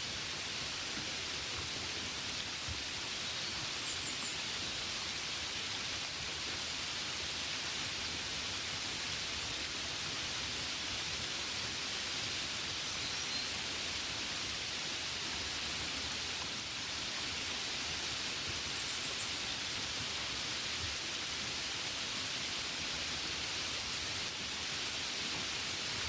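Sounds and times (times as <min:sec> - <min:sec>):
gentle rain falling: 0:00.0 - 0:26.0.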